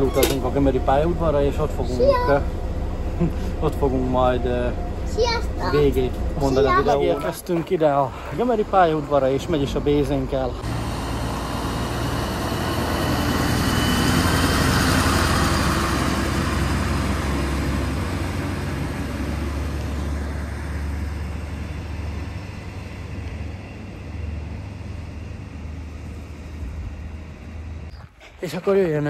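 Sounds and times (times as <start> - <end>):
diesel railcar engine drone: 0.0 - 27.9.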